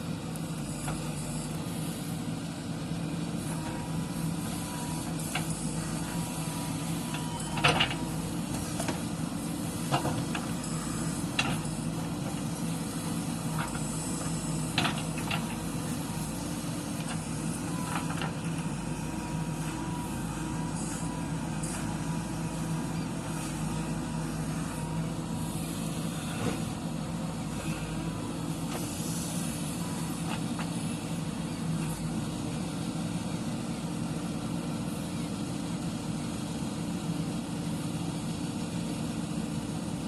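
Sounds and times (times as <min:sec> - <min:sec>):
backhoe diesel engine running: 0:00.0 - 0:40.0.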